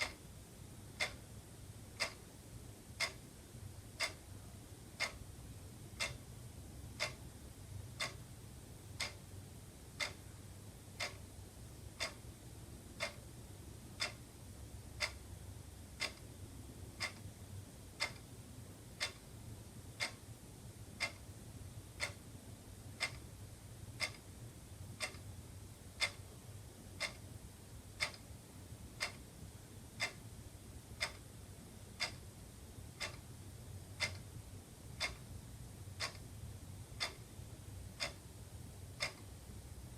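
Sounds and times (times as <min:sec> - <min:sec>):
faint low hum: 0:00.0 - 0:39.9
wall clock ticking: 0:00.0 - 0:39.9.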